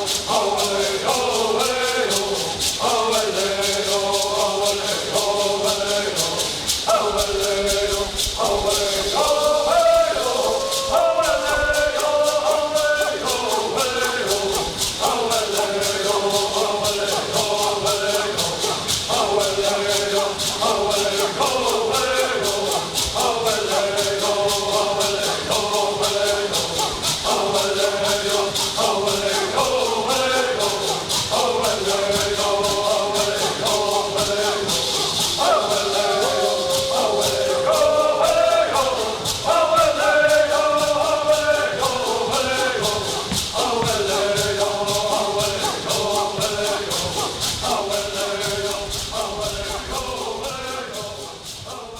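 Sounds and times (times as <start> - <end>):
gourd rattles shaking: 0.0 - 51.9
group singing in unison: 0.0 - 51.9.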